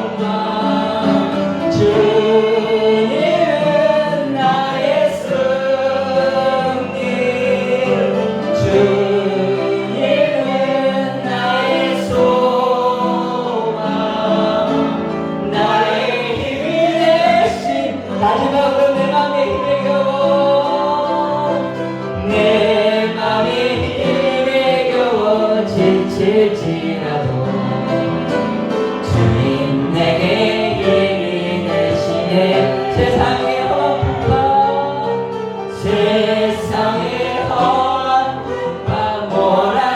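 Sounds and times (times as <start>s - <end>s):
group singing worship song: 0.0s - 39.9s
instrumental accompaniment: 0.0s - 39.9s.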